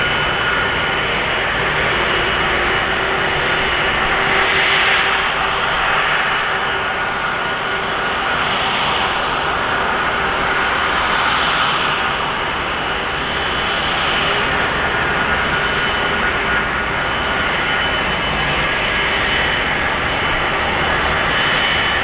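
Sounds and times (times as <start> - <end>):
jet engine hiss: 0.0 - 22.0
jet engine whine: 0.0 - 22.0.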